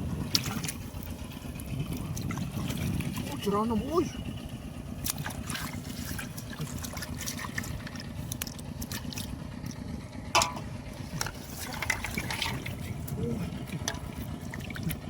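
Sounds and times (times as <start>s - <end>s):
muddy water splashing: 0.0s - 15.0s
steady low rumble: 0.0s - 15.0s.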